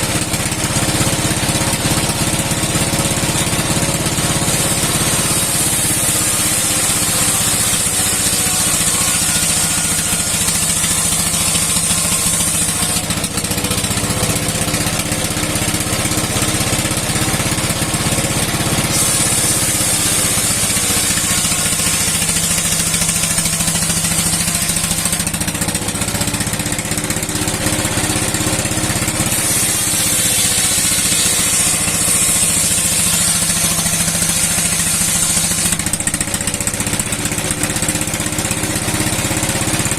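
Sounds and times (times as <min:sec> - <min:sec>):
old stationary engine running: 0:00.0 - 0:39.9
saw blade hissing through wood: 0:00.0 - 0:39.9.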